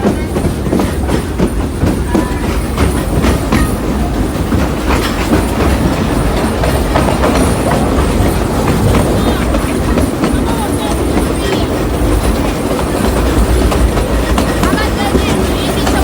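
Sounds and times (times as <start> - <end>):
train car rumbling on track: 0.0 - 16.0
wheels clacking and rattling: 0.0 - 16.0.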